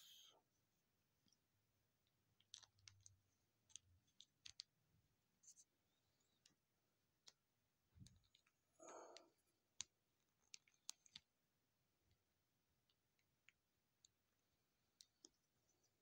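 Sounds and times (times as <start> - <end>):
faint plastic clicks: 2.0 - 4.8, 5.4 - 11.4, 12.0 - 16.0.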